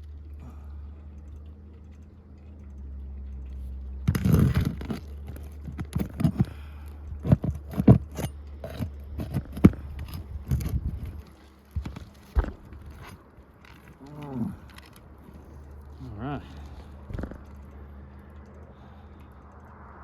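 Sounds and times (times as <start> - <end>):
low steady hum: 0.0 - 20.0
tools scraping roof shingles: 1.3 - 18.5.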